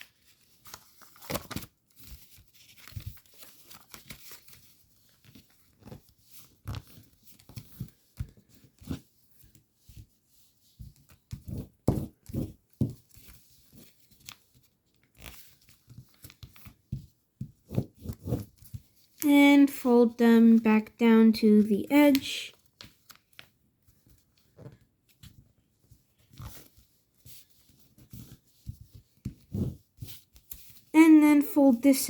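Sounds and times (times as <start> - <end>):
paper rustling and crinkling: 0.0 - 19.2, 22.0 - 30.9.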